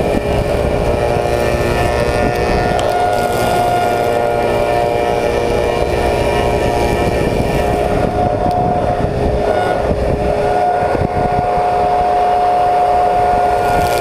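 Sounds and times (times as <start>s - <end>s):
surfacing machine cutting wood: 0.0s - 14.0s.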